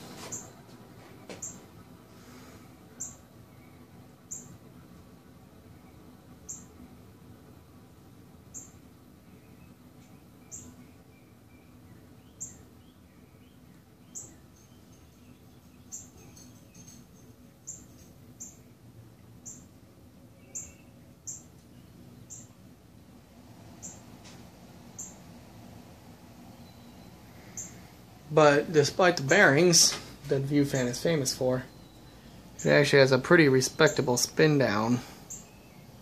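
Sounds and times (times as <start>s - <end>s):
fan squeaking: 0.0s - 5.0s, 8.4s - 36.0s
ceiling fan low hum: 0.0s - 36.0s.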